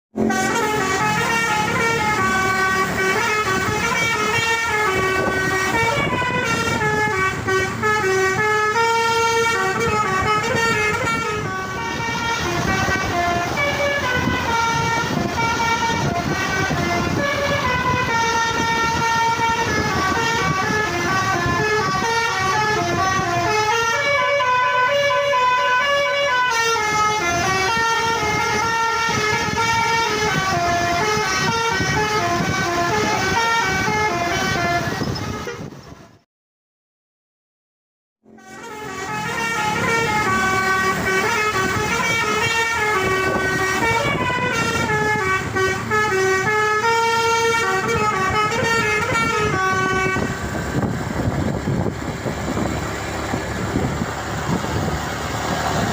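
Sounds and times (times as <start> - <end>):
bus horn playing melody: 0.2 - 36.2, 38.2 - 51.9.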